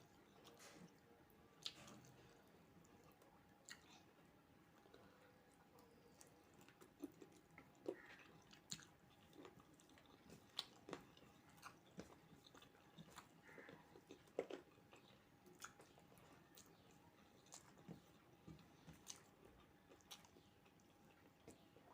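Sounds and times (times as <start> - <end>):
person chewing: 1.6 - 21.9.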